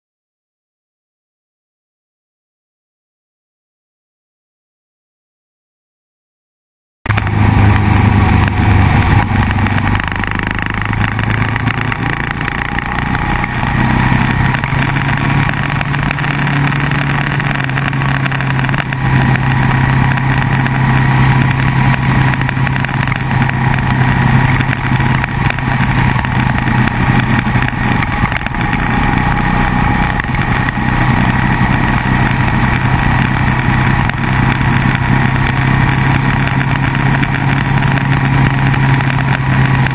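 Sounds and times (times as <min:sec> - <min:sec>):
motorcycle engine cruising: 0:07.1 - 0:39.9
road noise: 0:07.1 - 0:39.9
wind noise: 0:07.1 - 0:39.9.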